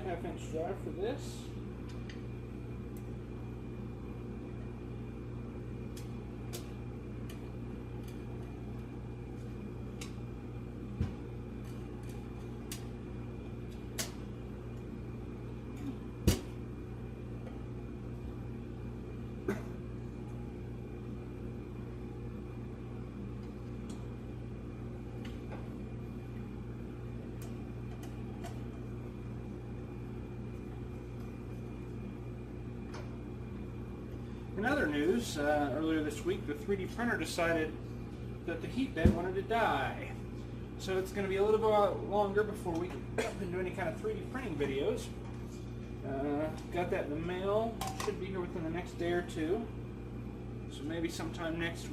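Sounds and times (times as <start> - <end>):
low background hum: 0.0 - 51.9.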